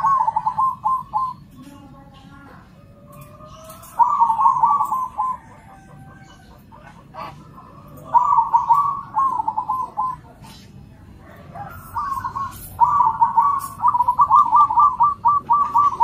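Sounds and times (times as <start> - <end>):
doves cooing: 0.0 - 16.0.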